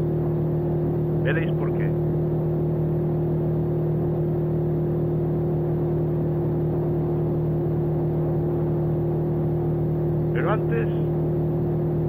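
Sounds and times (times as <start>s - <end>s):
motorcycle engine drone: 0.0s - 12.0s.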